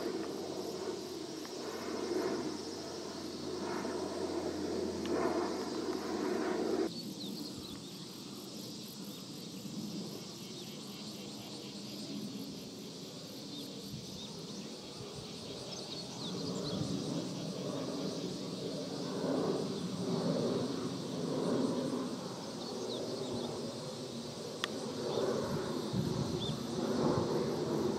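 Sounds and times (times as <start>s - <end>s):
insects chirping: 0.0s - 27.9s
jet airliner rumble overhead: 0.0s - 27.9s
turboprop airliner droning overhead: 0.0s - 27.9s.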